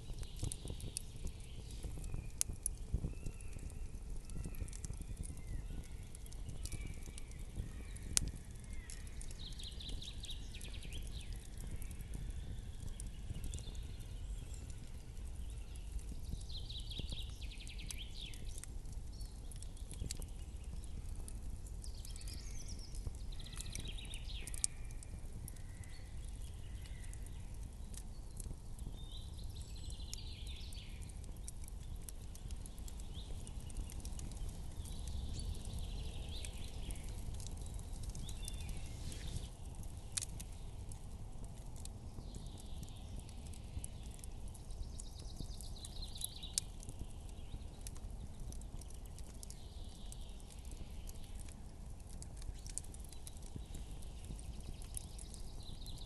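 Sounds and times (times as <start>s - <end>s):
burning wood popping: 0.0s - 56.0s
campfire crackling: 0.0s - 56.0s.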